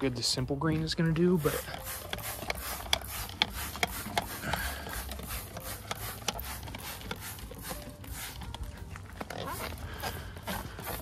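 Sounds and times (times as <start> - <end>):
spray bottle squirting: 1.4 - 11.0.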